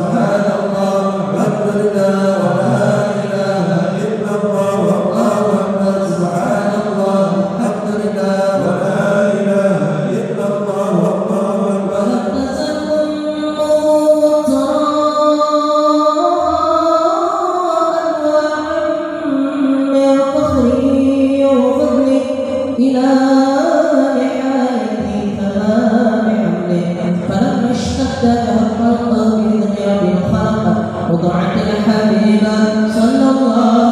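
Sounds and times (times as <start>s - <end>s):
devotional chanting: 0.0s - 33.9s.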